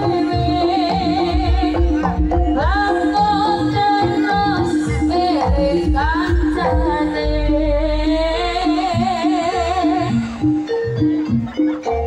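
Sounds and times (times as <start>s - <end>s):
drums: 0.0s - 12.0s
pitched metal percussion: 0.0s - 12.0s
wavering high melody line: 0.0s - 12.0s.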